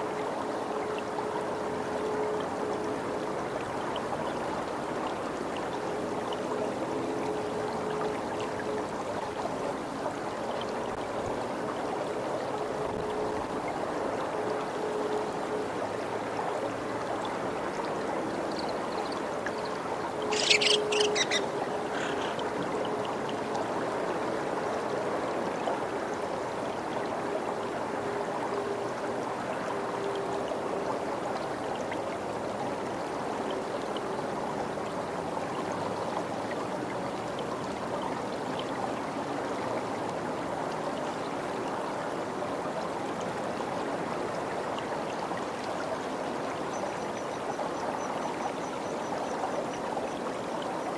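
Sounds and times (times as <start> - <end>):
running water: 0.0 - 50.9.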